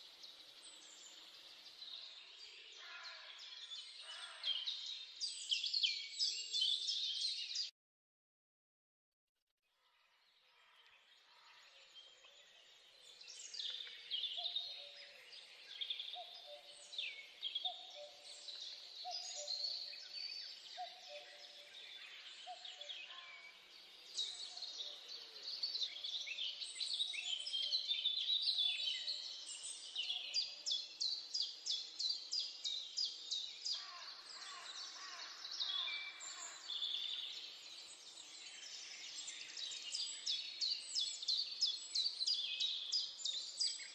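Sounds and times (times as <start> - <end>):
birds singing and chirping: 0.0 - 7.7, 10.6 - 43.9.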